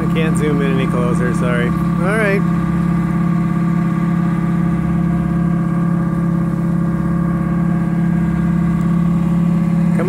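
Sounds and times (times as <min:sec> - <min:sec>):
boat engine humming: 0:00.0 - 0:10.0.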